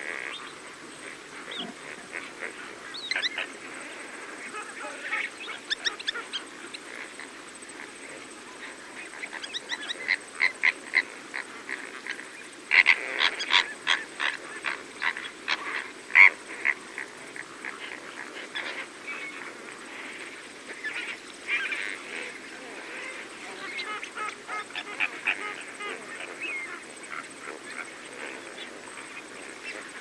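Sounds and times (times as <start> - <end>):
flamingos calling: 0.0 - 30.0.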